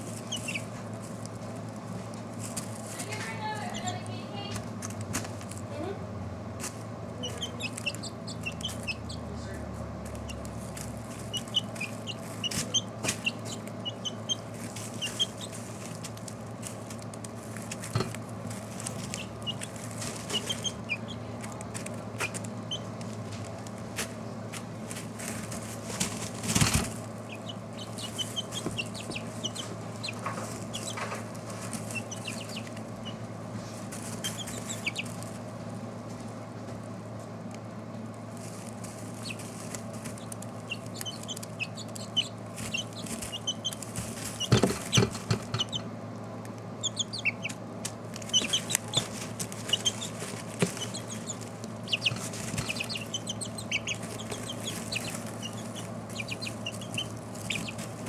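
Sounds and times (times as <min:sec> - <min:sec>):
chicks peeping: 0:00.0 - 0:05.1, 0:06.6 - 0:36.2, 0:38.3 - 0:58.0
steady low hum: 0:00.0 - 0:58.0.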